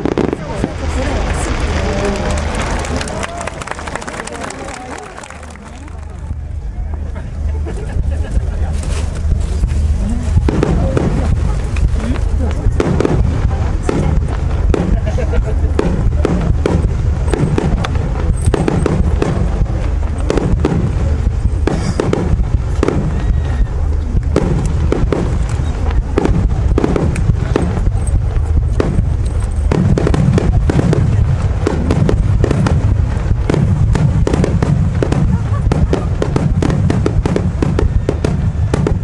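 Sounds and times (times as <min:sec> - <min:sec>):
fireworks booming and crackling: 0:00.0 - 0:39.0
steady low rumble: 0:00.0 - 0:39.0.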